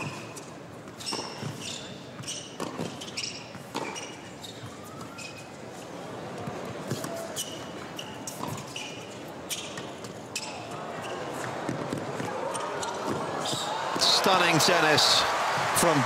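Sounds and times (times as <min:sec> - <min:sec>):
sneakers squeaking on court: 0:00.0 - 0:05.6, 0:06.4 - 0:14.0.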